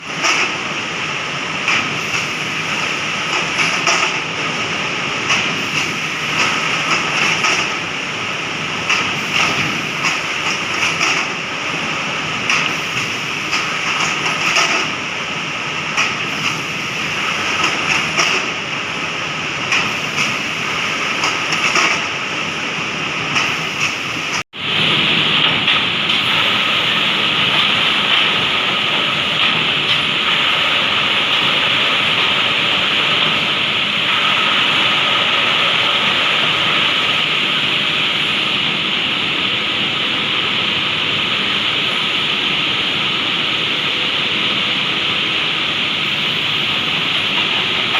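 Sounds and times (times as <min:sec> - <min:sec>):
continuous machinery noise: 0:00.0 - 0:47.9
higher-pitched machine noise: 0:00.0 - 0:47.9.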